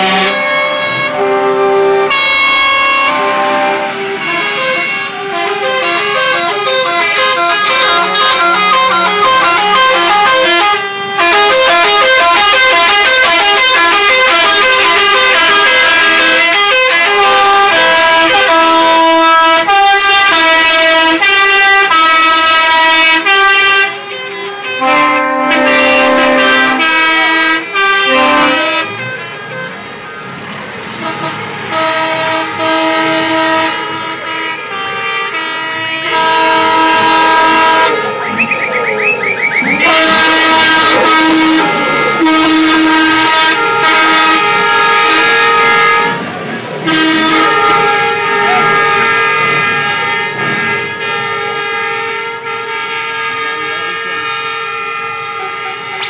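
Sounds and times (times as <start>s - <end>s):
truck air horns sounding: 0.0s - 56.0s.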